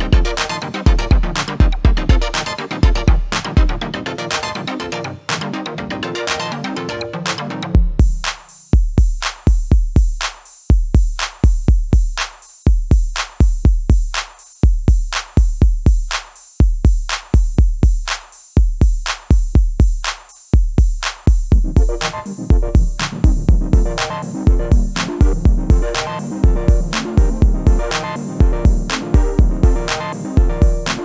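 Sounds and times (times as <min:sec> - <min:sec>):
drum machine beat: 0:00.0 - 0:04.6, 0:07.3 - 0:31.0.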